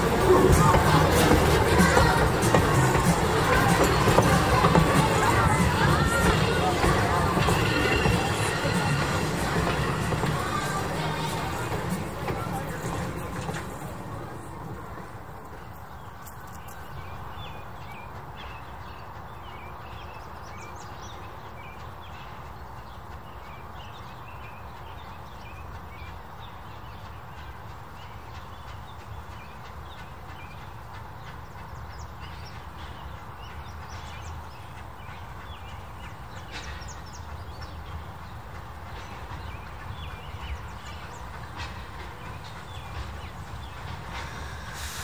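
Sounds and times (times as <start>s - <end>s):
birds chirping and singing: 0.0s - 45.0s.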